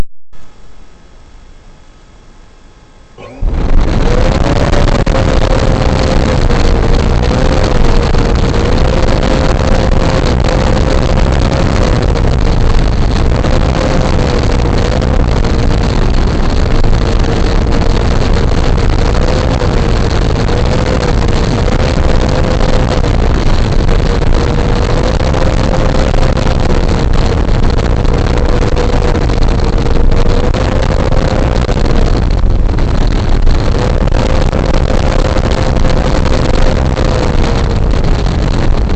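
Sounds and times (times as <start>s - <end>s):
electric motor whining: 3.2s - 38.9s
wind noise: 3.2s - 38.9s.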